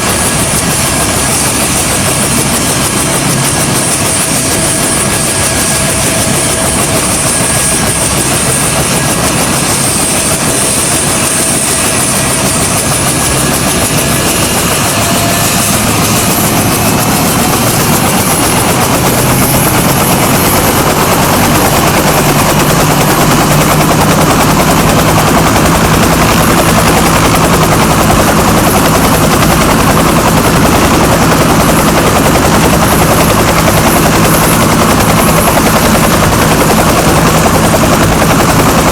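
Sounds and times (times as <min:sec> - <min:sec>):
helicopter rotor beat: 0:00.0 - 0:38.9
helicopter turbine whine: 0:00.0 - 0:38.9.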